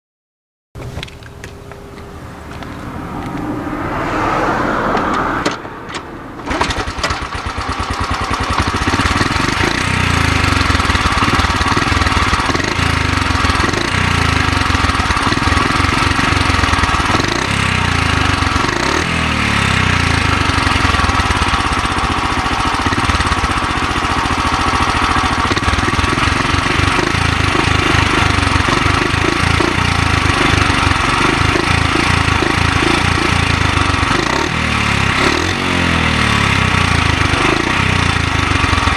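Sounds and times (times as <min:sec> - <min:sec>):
small motorcycle engine idling: 0:00.8 - 0:04.0, 0:06.3 - 0:38.9.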